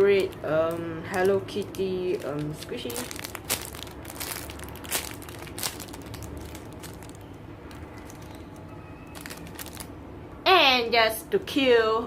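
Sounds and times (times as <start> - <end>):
plastic wrapping crinkles: 0.0 - 9.9.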